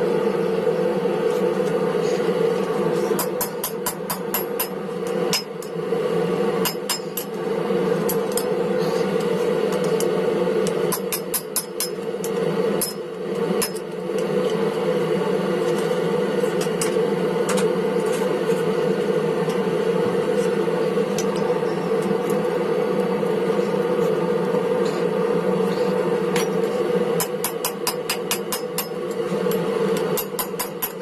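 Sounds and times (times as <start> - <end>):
forge blower humming: 0.0 - 31.0.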